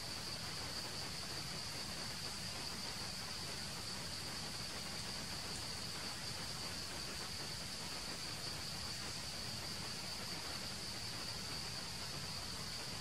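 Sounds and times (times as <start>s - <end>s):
faint hiss: 0.0s - 13.0s
high-pitched insect chorus: 0.0s - 13.0s.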